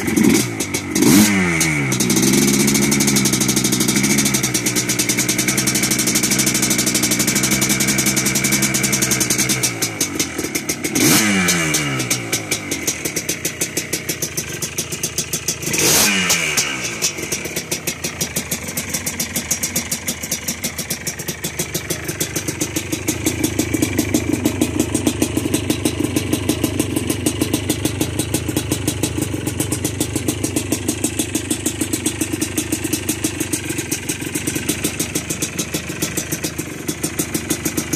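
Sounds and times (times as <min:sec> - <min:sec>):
two-stroke engine revving and idling: 0:00.0 - 0:37.9.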